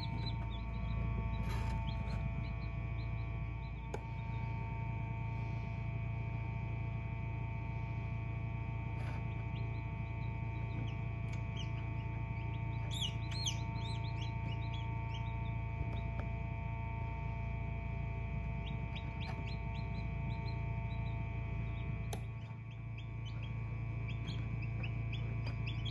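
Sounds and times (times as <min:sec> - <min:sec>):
chicks peeping: 0:00.0 - 0:05.8, 0:07.4 - 0:25.9
incubator hum: 0:00.0 - 0:25.9.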